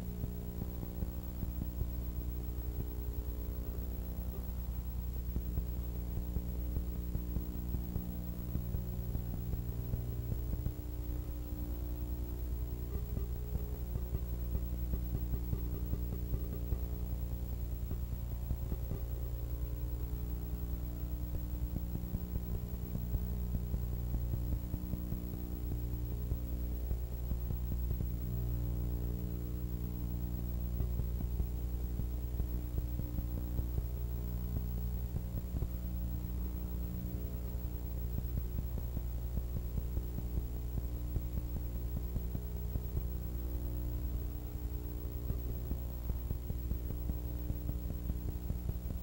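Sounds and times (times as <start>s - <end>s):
electrical mains hum: 0.0s - 49.0s
faint crackle: 0.0s - 49.0s.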